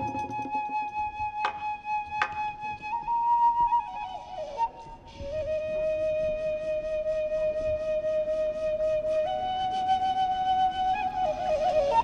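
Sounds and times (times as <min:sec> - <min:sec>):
bamboo flute playing long notes: 0:00.0 - 0:12.0.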